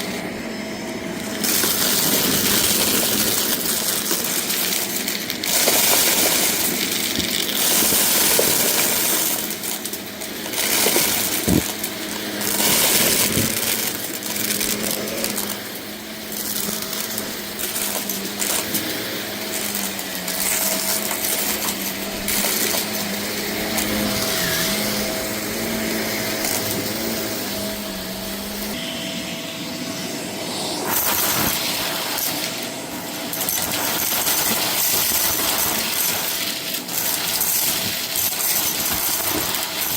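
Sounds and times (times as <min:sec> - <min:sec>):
debris rattling through vacuum: 0:00.0 - 0:28.9, 0:29.8 - 0:39.9
vacuum cleaner running: 0:00.0 - 0:39.9.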